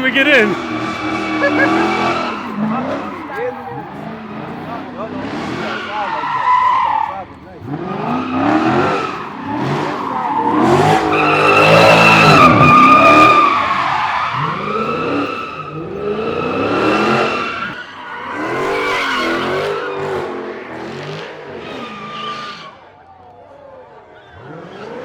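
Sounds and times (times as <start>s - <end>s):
car engine revving hard: 0.0s - 22.8s, 24.4s - 25.0s
tires squealing: 0.0s - 25.0s.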